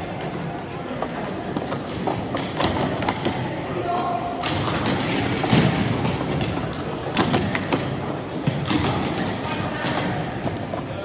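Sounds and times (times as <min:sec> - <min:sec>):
sports hall background noise: 0:00.0 - 0:11.0.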